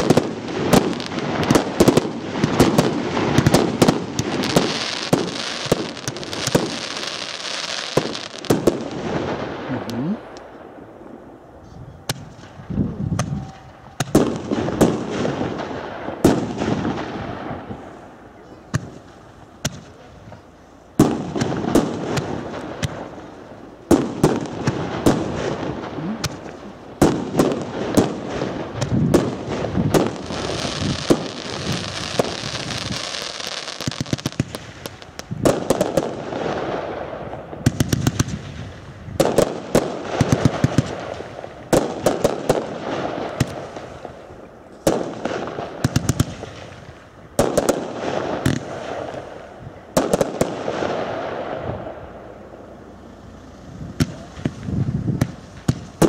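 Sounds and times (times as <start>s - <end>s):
fireworks bangs and pops: 0.0s - 11.2s, 12.0s - 56.0s
fireworks hiss: 0.0s - 11.3s, 12.1s - 56.0s.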